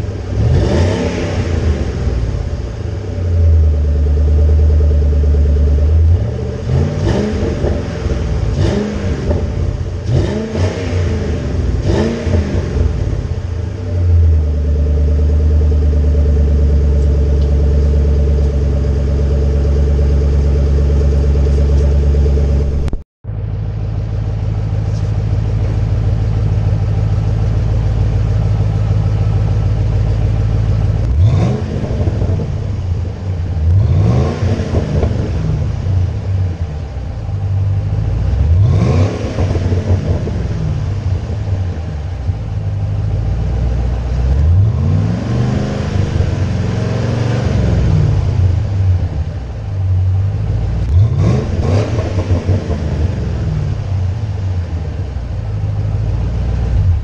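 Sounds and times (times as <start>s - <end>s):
car engine idling: 0.0s - 57.0s
car engine revving: 0.0s - 57.0s.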